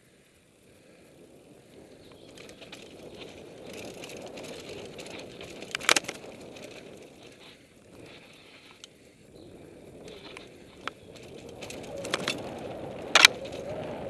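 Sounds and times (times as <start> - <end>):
bike tyres on dirt trail: 0.0 - 14.0
small rattles: 0.2 - 14.0.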